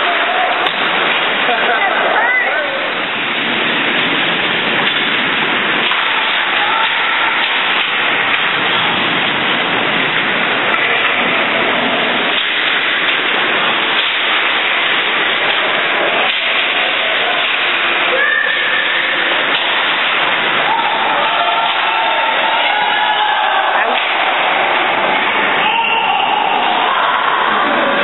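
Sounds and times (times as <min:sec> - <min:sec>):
loud rushing noise: 0:00.0 - 0:28.0.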